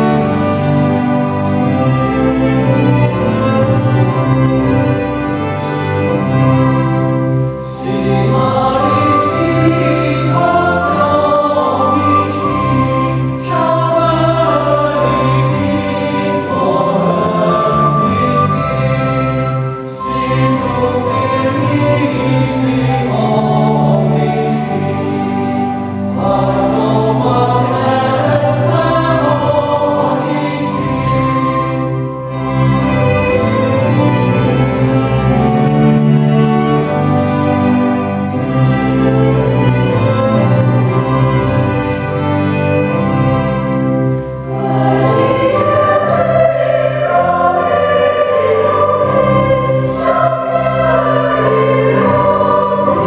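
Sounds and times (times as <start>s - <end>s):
mixed choir singing: 0.0s - 53.0s
string orchestra playing: 0.0s - 53.0s.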